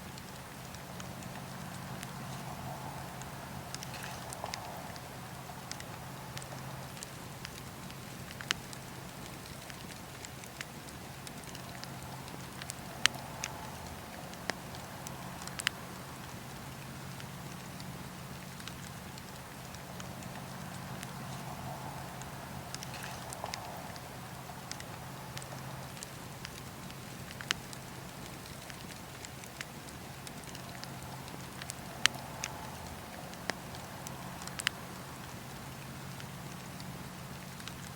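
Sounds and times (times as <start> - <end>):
low hiss and hum: 0.0 - 37.9
wood crackling and popping: 0.0 - 37.9.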